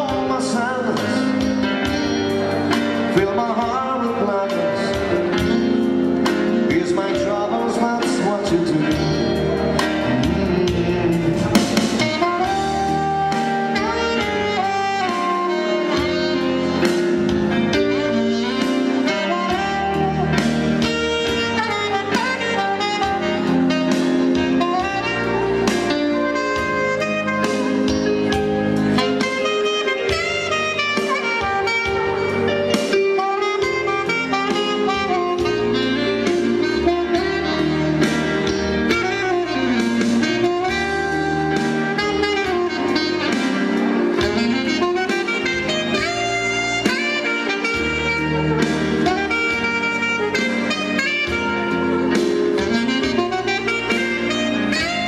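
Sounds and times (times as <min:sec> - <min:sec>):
electronic keyboard with steady beat: 0:00.0 - 0:55.0
saxophone melody: 0:00.0 - 0:55.0.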